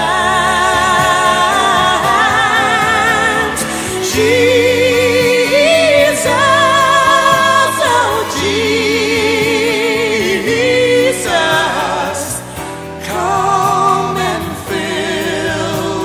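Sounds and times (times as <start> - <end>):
hymn singing with vibrato: 0.0 - 16.0
instrumental accompaniment: 0.0 - 16.0.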